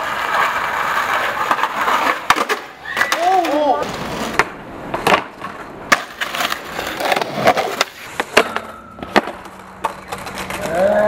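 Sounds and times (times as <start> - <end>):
skateboard clacking on concrete: 0.0 - 11.0.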